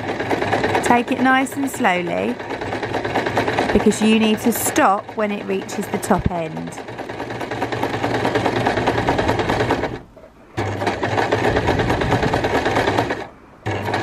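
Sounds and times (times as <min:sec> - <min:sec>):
sewing machine stitching: 0:00.0 - 0:14.0.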